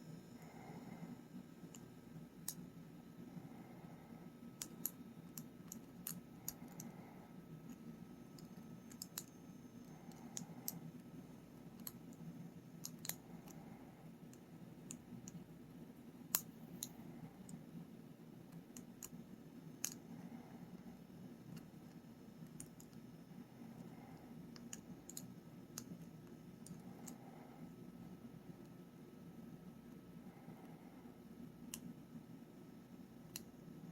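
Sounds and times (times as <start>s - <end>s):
faint low hum: 0.0s - 33.9s.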